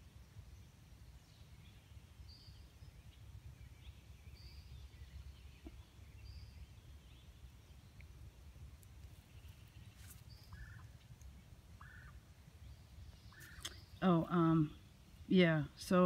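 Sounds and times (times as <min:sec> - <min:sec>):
low steady rumble: 0:00.0 - 0:16.0
soft bird chirps: 0:00.3 - 0:15.3.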